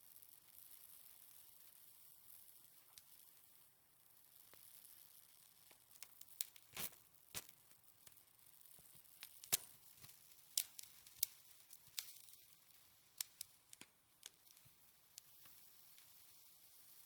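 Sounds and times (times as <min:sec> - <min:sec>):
soft hiss: 0:00.0 - 0:17.0.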